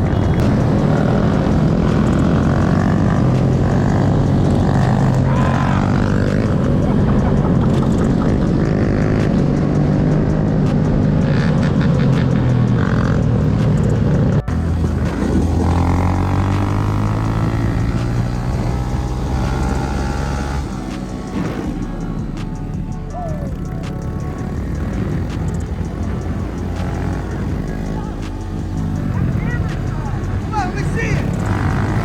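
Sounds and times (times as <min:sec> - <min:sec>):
mini bike engines running: 0:00.0 - 0:32.0.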